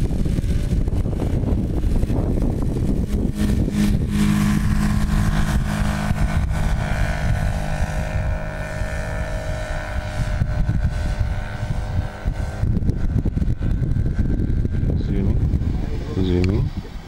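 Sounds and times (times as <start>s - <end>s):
model airplane engine running: 0.0s - 17.0s
wind rumble on microphone: 0.0s - 17.0s.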